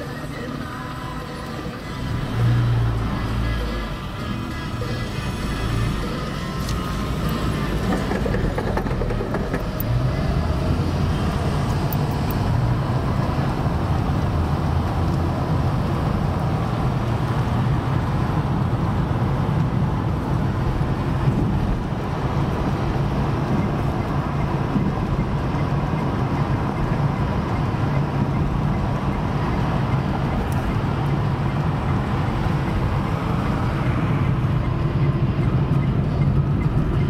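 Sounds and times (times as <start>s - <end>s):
engine and tyre rumble inside car: 0.0s - 37.0s.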